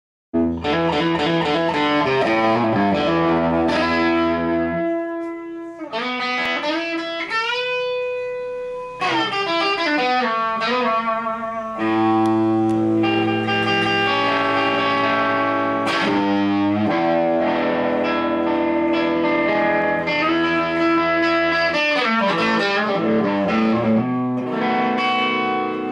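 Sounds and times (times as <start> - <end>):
electric guitar chords and bends: 0.4 - 25.9.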